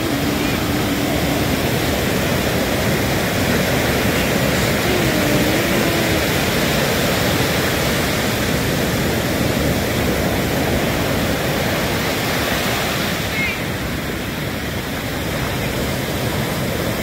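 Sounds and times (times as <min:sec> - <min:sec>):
waves breaking on beach: 0:00.0 - 0:17.0.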